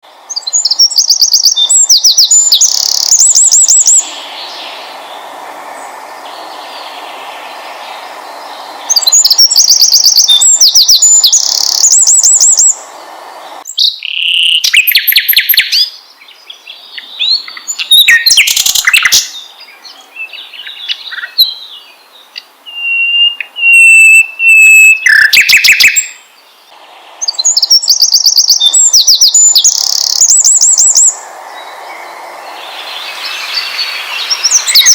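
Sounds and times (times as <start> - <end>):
background hiss: 0.0 - 34.9
songbirds chirping and trilling: 0.2 - 34.9
whistled bird calls: 0.3 - 5.2, 6.3 - 12.8, 13.7 - 26.2, 27.2 - 34.9.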